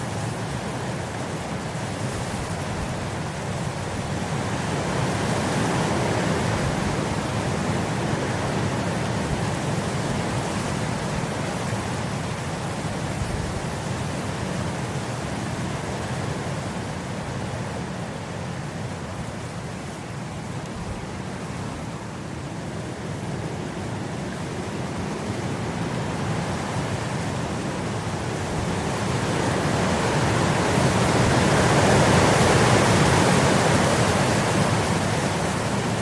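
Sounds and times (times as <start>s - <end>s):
wind blowing across grass: 0.0s - 36.0s.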